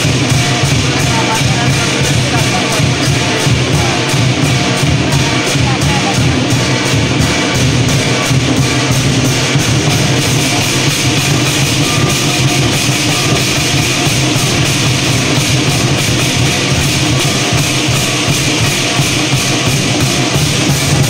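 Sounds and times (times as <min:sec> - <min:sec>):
cymbals crashing: 0:00.0 - 0:21.0
drum: 0:00.0 - 0:21.0
gong: 0:00.0 - 0:21.0.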